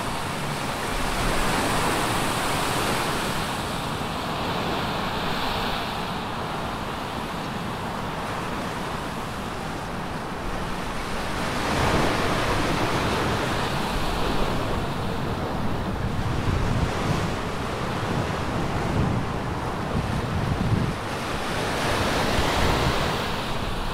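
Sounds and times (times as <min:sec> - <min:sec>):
sea surf washing in: 0:00.0 - 0:23.9
wind buffeting microphone: 0:00.0 - 0:23.9.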